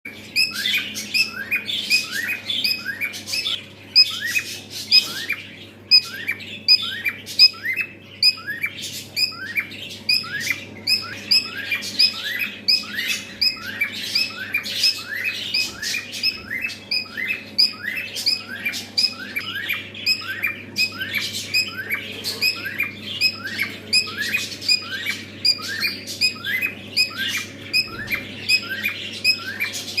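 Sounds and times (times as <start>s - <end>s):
cockatiel chirping: 0.2s - 30.0s.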